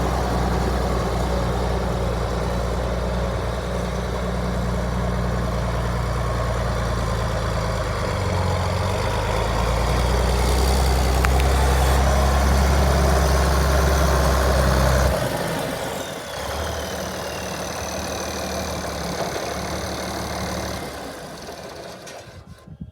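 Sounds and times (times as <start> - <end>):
tractor diesel engine running: 0.0 - 22.8.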